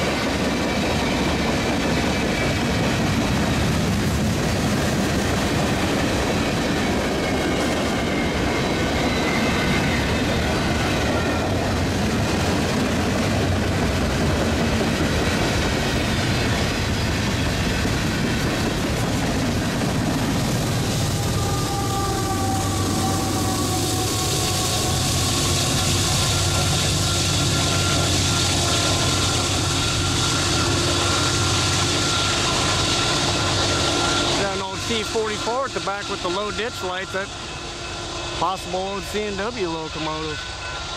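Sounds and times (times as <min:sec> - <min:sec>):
diesel locomotive engine drone: 0:00.0 - 0:40.9
train wheels rumbling on rails: 0:00.0 - 0:40.9.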